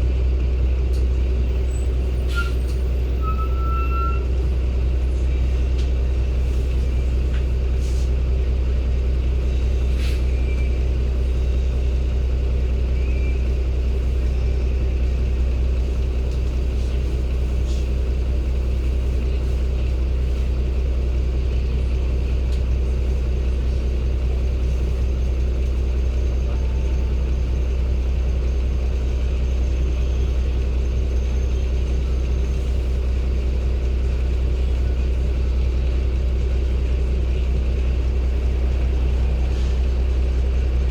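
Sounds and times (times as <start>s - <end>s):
diesel bus engine rumbling: 0.0s - 40.9s.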